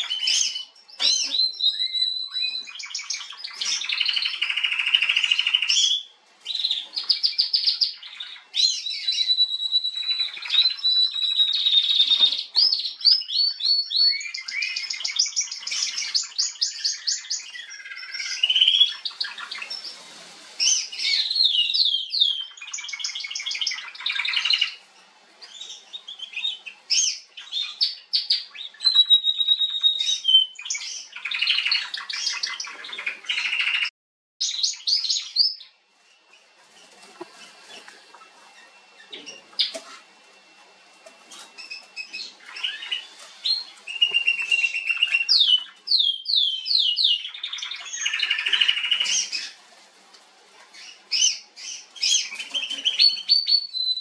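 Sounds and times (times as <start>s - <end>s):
canary singing trills: 0.0s - 49.6s, 50.7s - 54.0s.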